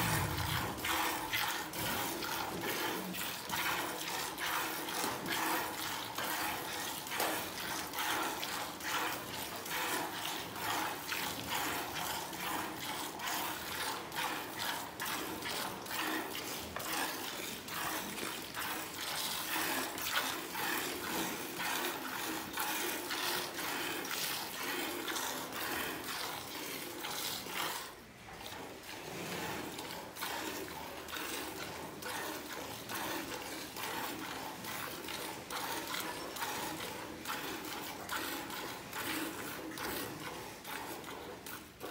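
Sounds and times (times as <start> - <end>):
milk squirting into steel pail: 0.0 - 40.0.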